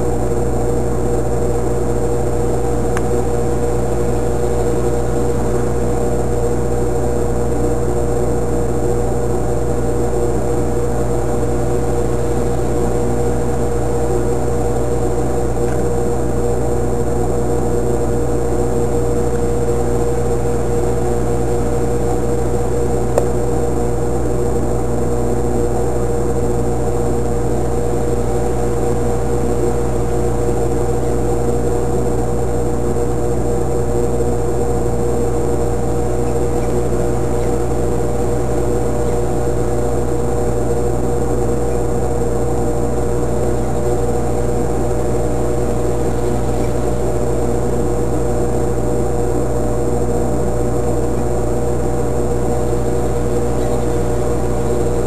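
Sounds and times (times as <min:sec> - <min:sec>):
loud steady mechanical hum: 0:00.0 - 0:55.0.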